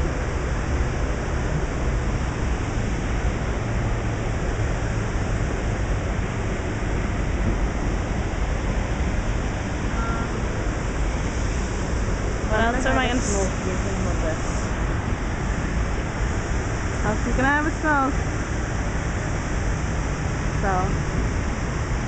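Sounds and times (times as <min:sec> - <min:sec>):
waterfall and fountain rushing: 0:00.0 - 0:22.0.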